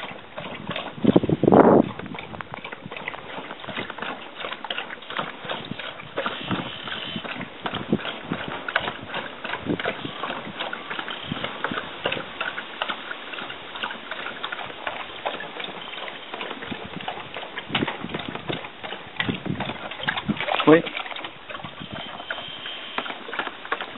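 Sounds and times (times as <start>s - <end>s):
dog eating from plastic bucket: 0.0s - 23.9s.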